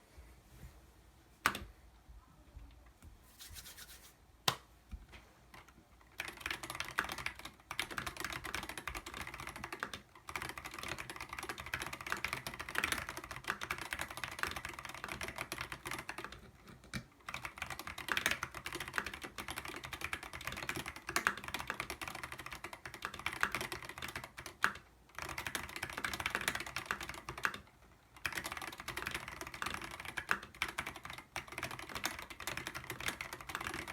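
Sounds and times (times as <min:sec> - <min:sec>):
typing on mechanical keyboard: 0:06.2 - 0:33.9.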